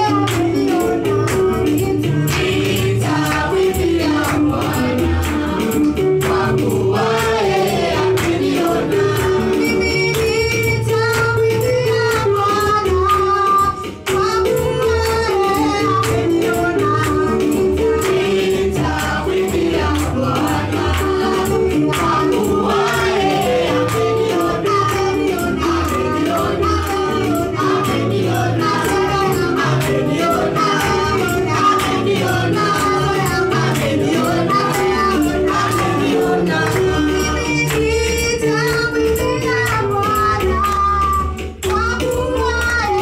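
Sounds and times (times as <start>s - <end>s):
backing music: 0.0s - 43.0s
steady percussion: 0.0s - 43.0s
women singing gospel song: 0.0s - 43.0s.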